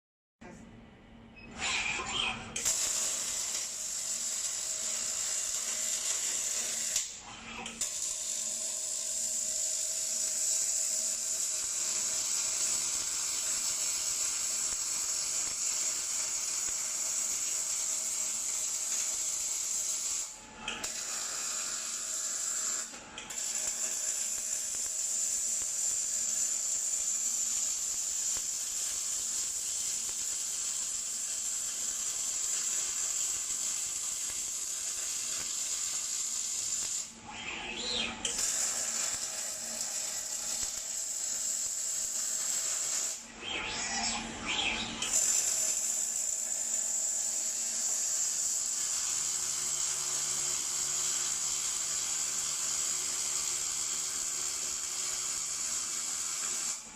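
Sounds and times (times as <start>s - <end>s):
welding arc hissing: 2.6s - 43.8s, 44.4s - 56.9s.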